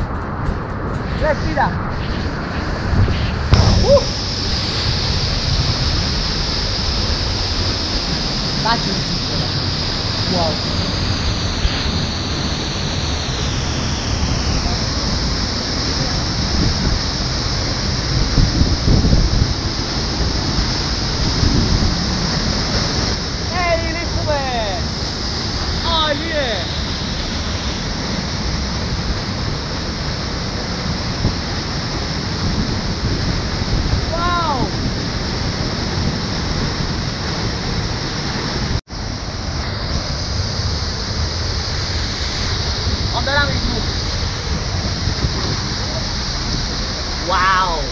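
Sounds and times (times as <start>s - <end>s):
low rumbles: 0.0s - 47.9s
waterfall rushing: 1.0s - 47.9s.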